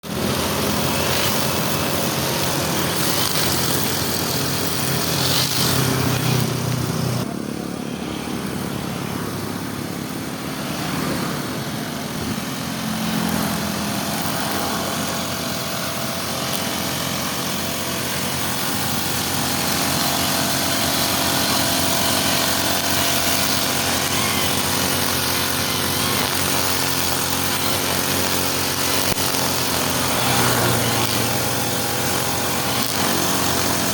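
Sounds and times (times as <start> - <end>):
brush cutter engines running: 0.0 - 33.9.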